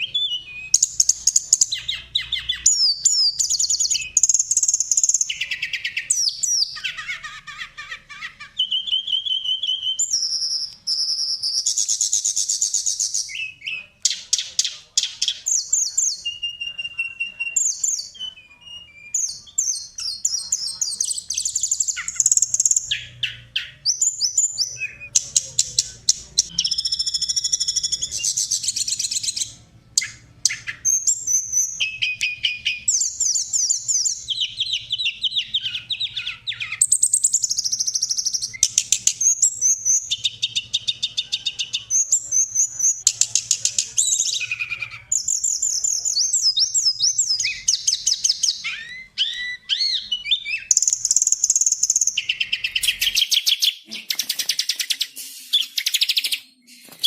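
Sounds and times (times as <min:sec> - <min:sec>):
songbird chirping and trilling: 0:00.0 - 0:57.0.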